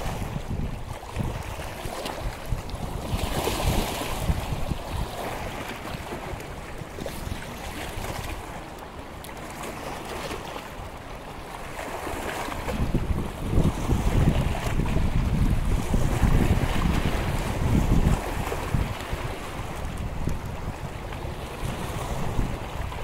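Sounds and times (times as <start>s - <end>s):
lake water lapping: 0.0s - 23.0s
wind buffeting microphone: 0.0s - 23.0s.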